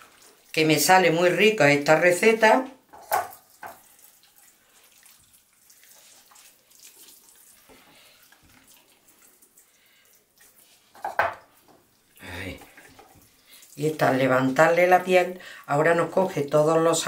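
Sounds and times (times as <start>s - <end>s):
wet squishing: 0.0s - 17.0s.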